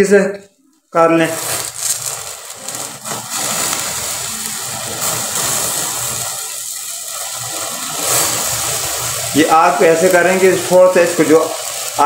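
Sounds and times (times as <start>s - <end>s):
chicken sizzling in flame: 1.2s - 12.0s
gas burner rushing: 1.2s - 12.0s.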